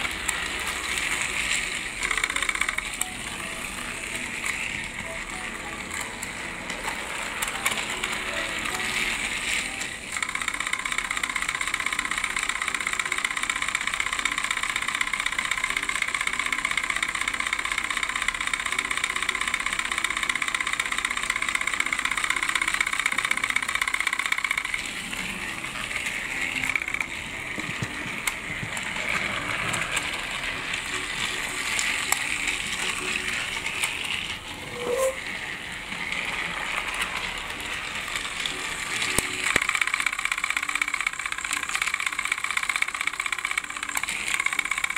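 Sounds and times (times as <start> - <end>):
toy motor whirring: 0.0 - 44.9
wheels rattling on plastic track: 0.0 - 44.9.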